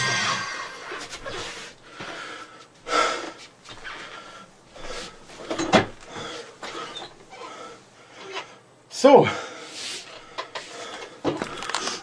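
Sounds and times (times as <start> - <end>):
man breathing hard and gasping: 1.4 - 5.4, 6.0 - 12.0.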